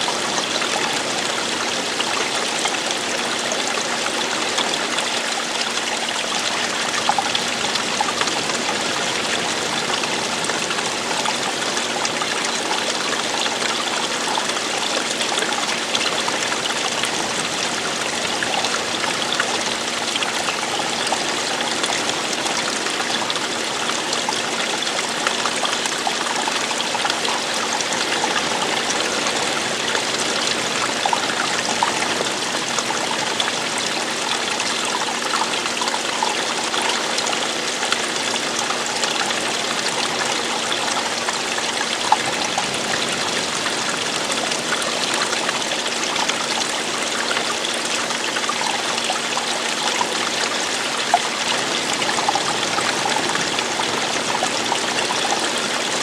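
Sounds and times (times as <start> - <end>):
stream water splashing: 0.0 - 56.0.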